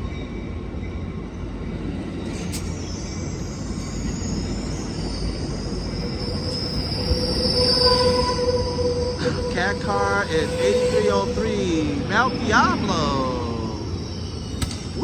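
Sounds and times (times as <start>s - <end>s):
passenger train rolling past: 0.0s - 15.0s
high-pitched brake squeal: 1.6s - 15.0s.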